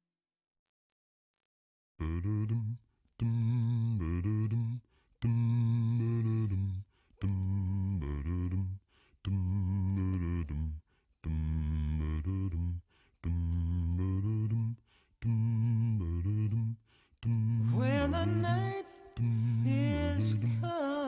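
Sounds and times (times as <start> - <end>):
low a cappella vocals: 2.0 - 21.0.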